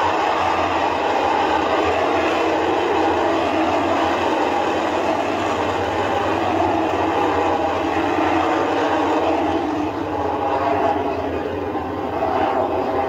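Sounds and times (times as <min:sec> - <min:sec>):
rocket engines rumbling: 0:00.0 - 0:13.0.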